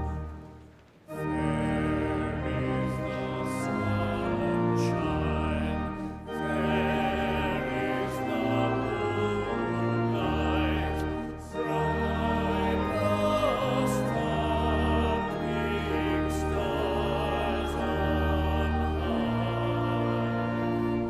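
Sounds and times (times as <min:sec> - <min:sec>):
choir singing a slow hymn: 0:01.1 - 0:21.0.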